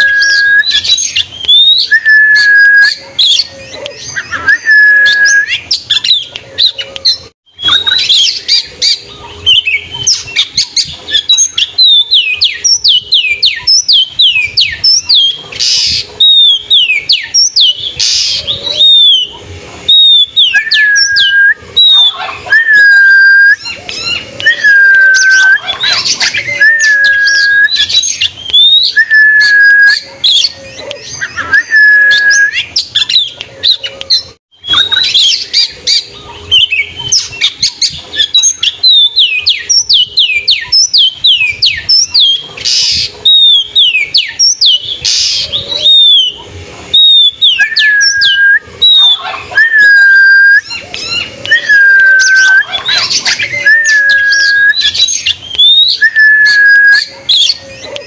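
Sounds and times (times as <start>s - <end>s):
bird singing whistled notes: 0.0s - 58.0s.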